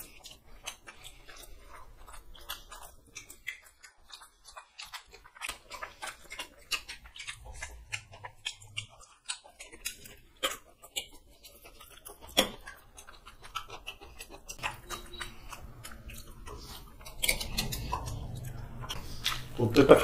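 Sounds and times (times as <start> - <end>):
wet chewing and smacking: 0.0 - 20.0.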